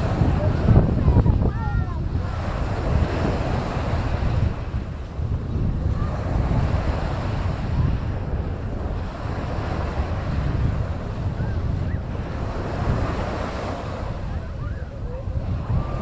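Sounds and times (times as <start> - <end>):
sea waves washing on beach: 0.0 - 16.0
wind buffeting microphone: 0.0 - 16.0.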